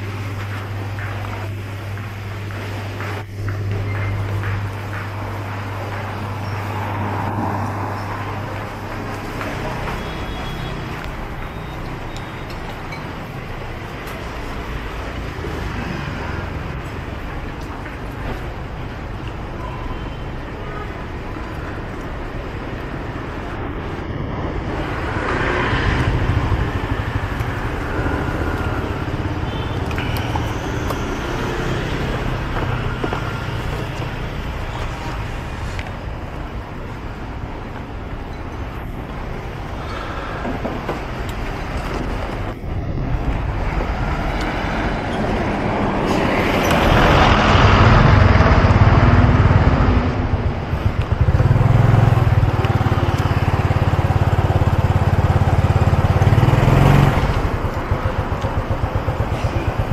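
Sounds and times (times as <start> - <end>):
passing motor vehicles: 0.0 - 59.9.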